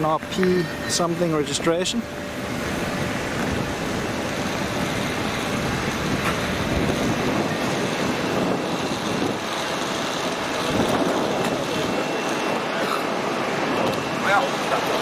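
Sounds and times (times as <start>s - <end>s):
aircraft and ground equipment rush: 0.0s - 15.0s
faint steady whine: 0.0s - 15.0s.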